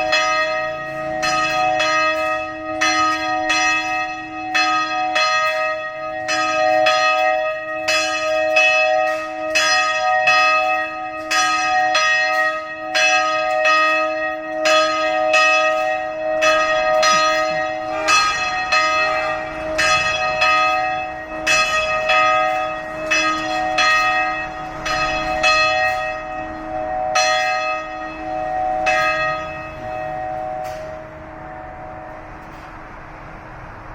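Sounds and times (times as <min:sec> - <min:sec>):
church bells ringing: 0:00.0 - 0:33.6.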